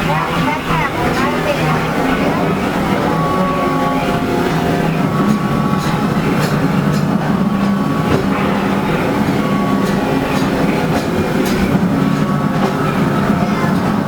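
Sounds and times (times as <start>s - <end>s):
train car rumbling: 0.0s - 14.0s
wheels clicking over rail joints: 0.0s - 14.0s.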